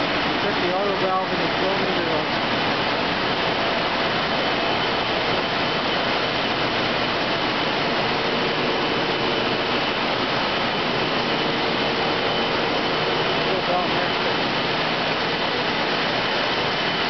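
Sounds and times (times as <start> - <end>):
industrial machinery running: 0.0 - 17.0.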